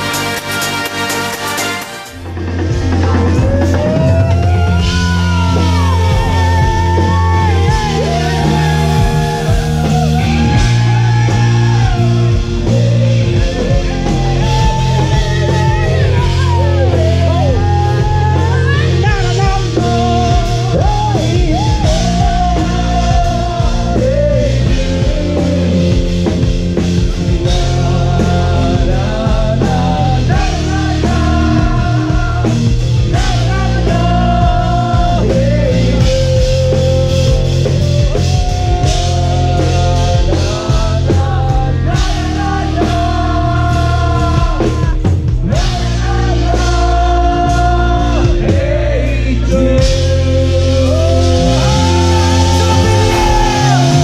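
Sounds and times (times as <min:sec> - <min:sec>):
rock song with singing: 0:00.0 - 0:54.0.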